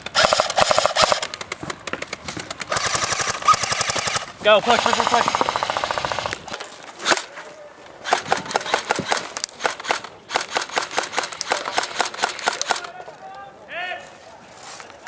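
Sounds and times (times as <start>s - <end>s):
airsoft guns firing: 0.0s - 7.3s, 8.0s - 13.0s.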